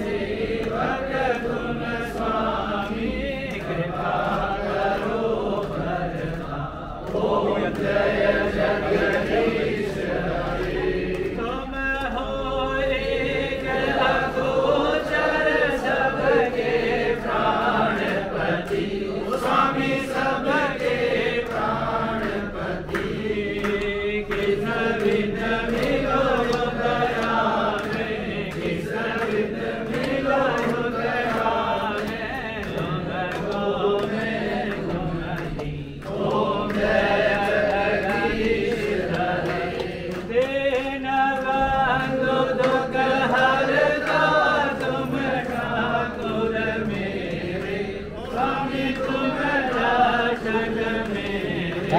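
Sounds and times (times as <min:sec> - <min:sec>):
group singing a hymn: 0:00.0 - 0:51.9.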